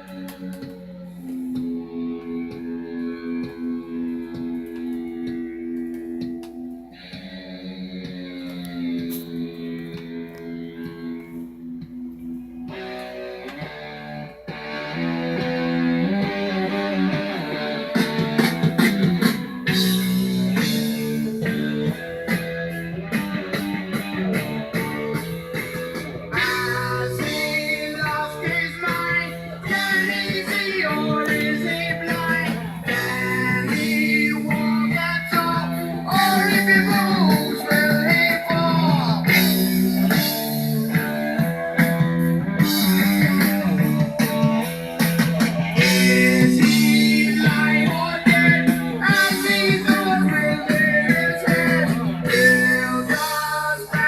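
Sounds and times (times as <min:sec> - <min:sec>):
rock music with guitar: 0:00.0 - 0:54.0.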